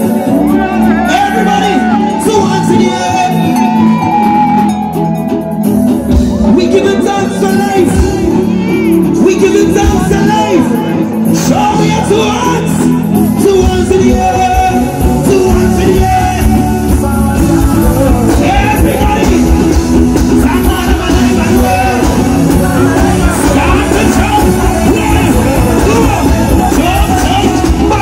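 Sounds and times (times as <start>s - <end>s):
live soca music over sound system: 0.0s - 28.0s.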